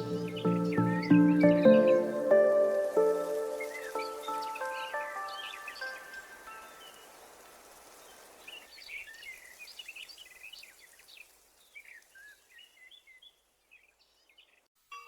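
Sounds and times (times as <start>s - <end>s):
small birds chirping and twittering: 0.0s - 14.7s.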